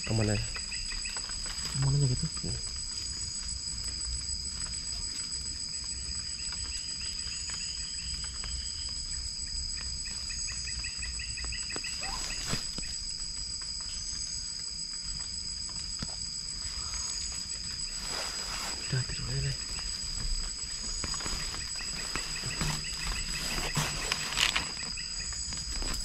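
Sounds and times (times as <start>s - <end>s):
crickets shrilling: 0.0s - 26.0s.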